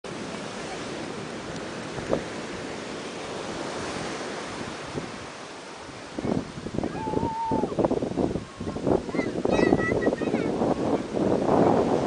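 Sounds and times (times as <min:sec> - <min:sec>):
ocean surf washing onto beach: 0:00.1 - 0:12.0.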